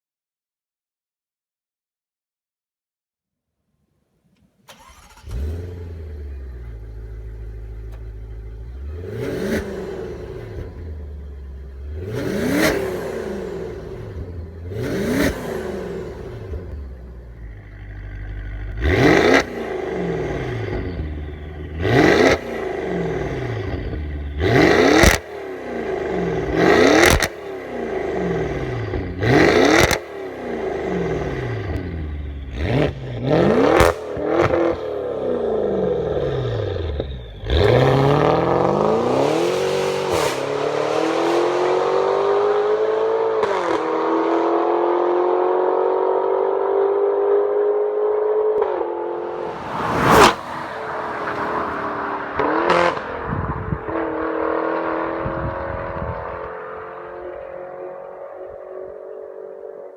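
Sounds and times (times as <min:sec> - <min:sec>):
car engine revving: 0:04.7 - 0:59.9.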